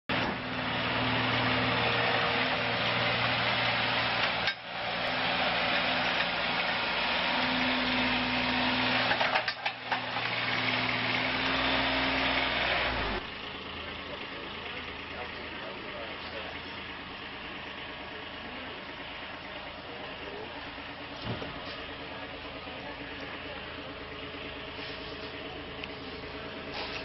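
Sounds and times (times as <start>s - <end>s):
loader engine at high throttle: 0.1s - 27.0s.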